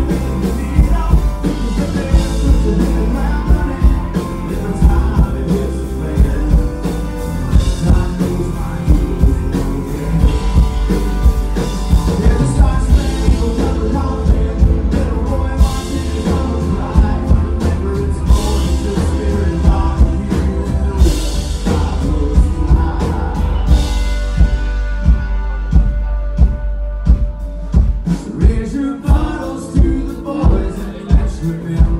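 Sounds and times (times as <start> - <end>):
fiddle lead: 0.0 - 30.0
drums on a steady beat: 0.0 - 31.9.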